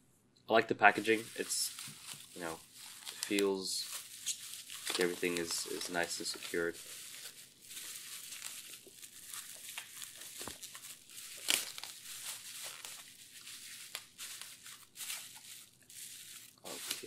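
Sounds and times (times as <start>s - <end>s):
bubble wrap crinkling: 0.8s - 17.0s
sharp bubble wrap crackle: 0.8s - 17.0s.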